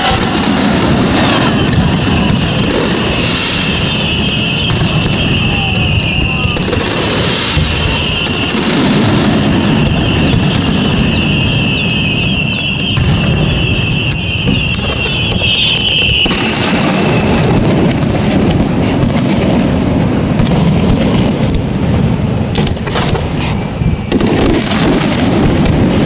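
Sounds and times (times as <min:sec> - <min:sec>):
fireworks bursts rumbling: 0:00.0 - 0:26.0.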